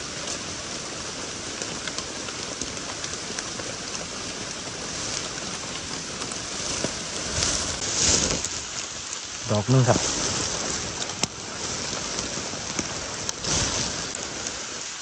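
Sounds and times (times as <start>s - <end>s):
heavy rain on foliage: 0.0s - 15.0s
leaves rustling: 0.0s - 15.0s.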